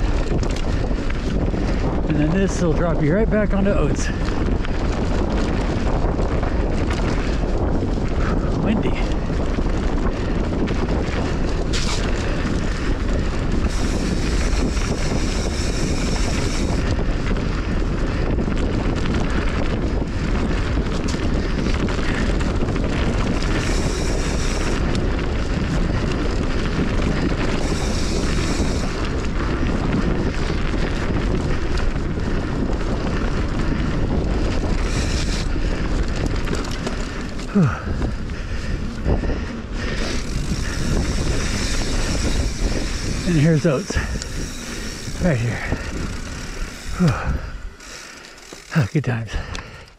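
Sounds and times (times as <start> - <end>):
bike tyres rolling on dirt: 0.0 - 49.9
wind buffeting microphone: 0.0 - 49.9.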